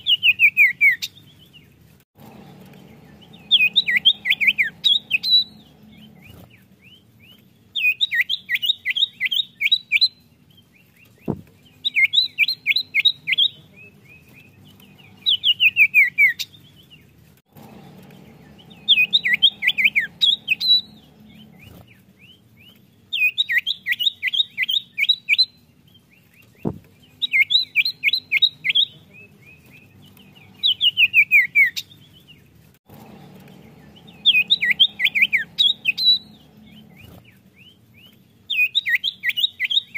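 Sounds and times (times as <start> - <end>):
bird singing whistled notes: 0.0 - 1.7, 2.5 - 17.0, 17.8 - 32.4, 33.1 - 39.9.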